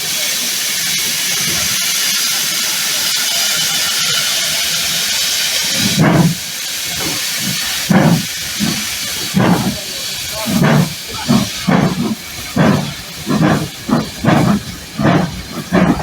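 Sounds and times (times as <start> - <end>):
steam locomotive hissing: 0.0 - 16.0
locomotive exhaust chuffs: 0.1 - 16.0.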